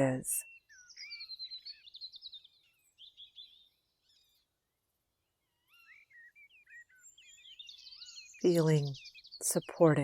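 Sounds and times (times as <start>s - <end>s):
faint birdsong chirping: 0.0s - 10.0s.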